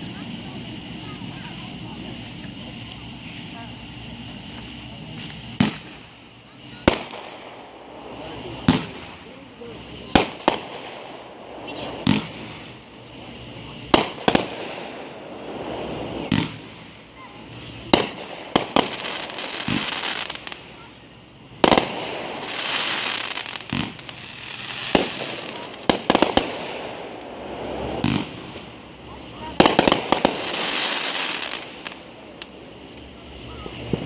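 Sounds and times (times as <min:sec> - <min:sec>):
fireworks bangs: 0:00.0 - 0:34.0
fireworks hissing: 0:00.0 - 0:34.0.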